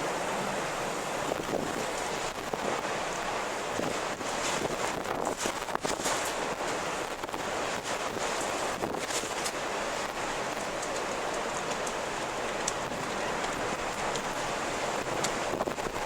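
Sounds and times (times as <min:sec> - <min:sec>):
wind blowing: 0:00.0 - 0:16.0.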